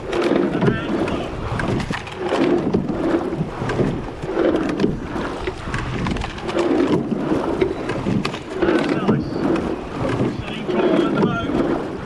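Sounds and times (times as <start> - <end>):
oar blades in water: 0.0 - 12.0
oars working in gates: 0.0 - 12.0
water rushing past hull: 0.0 - 12.0
wind on microphone: 0.0 - 12.0.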